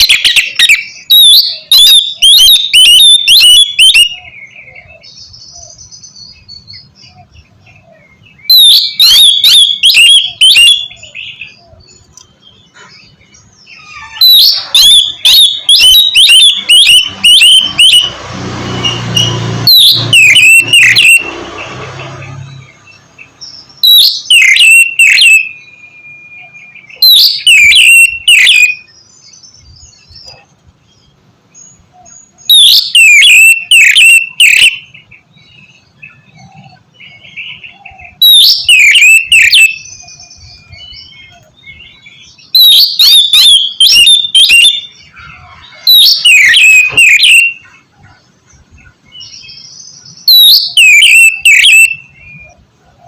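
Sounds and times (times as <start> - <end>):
bird singing sweeping whistles: 0.0 - 12.0, 13.0 - 21.4, 22.2 - 30.1, 32.4 - 36.4, 37.0 - 47.6, 49.1 - 52.6.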